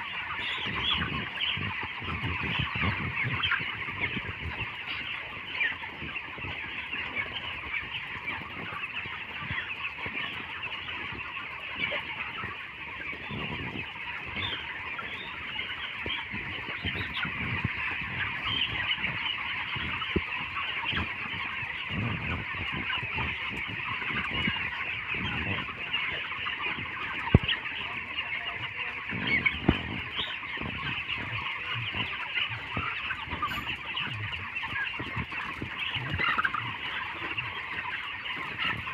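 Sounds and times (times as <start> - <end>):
chickens chirping and clucking: 0.0 - 38.9.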